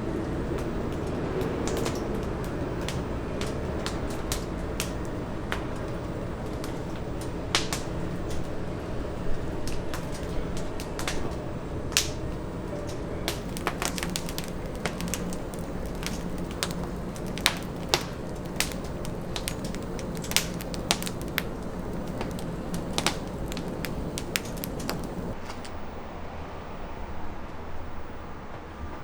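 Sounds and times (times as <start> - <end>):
wood fire crackling and popping: 0.0 - 25.4.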